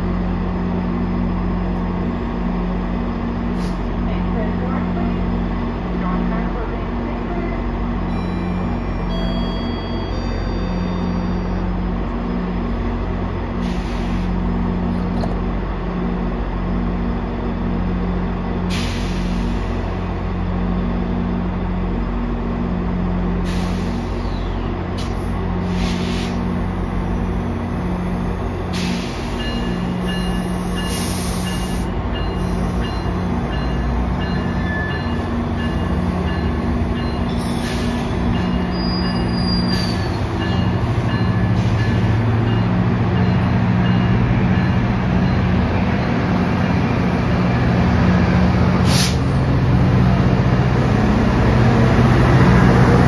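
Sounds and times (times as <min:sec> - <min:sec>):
diesel locomotive engine hum: 0:00.0 - 0:53.0
train wheels rumbling on rails: 0:00.0 - 0:53.0.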